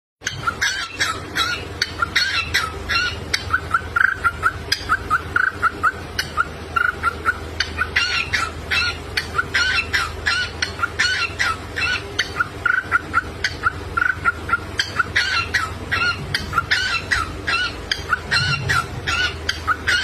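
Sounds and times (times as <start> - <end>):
cockatiel chirping: 0.2 - 20.0.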